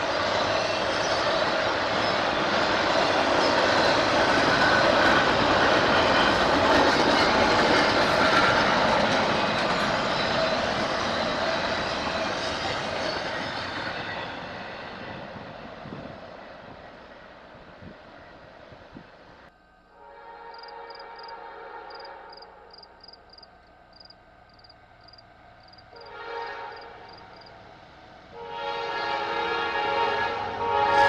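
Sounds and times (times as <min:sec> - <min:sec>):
train rolling past: 0:00.0 - 0:31.0.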